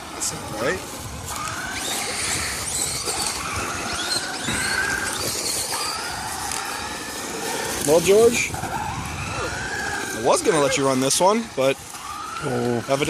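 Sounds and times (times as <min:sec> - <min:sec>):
electric motor whining: 0:00.0 - 0:13.0
tyre and ground noise: 0:00.0 - 0:13.0.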